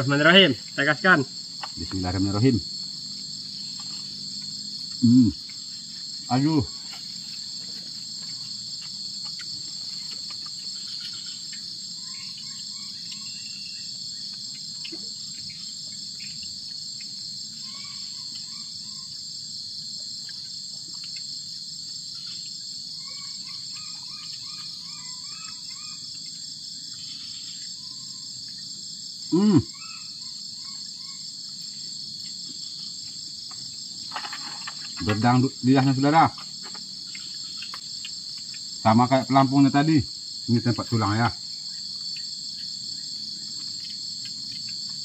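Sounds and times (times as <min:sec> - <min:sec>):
high-pitched insect chorus: 0:00.0 - 0:45.0.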